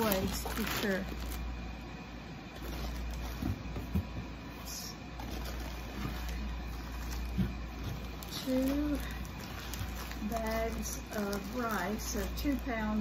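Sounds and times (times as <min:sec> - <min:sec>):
rustle of groceries: 0:00.0 - 0:01.7, 0:02.5 - 0:13.0
steady low hum: 0:00.0 - 0:13.0.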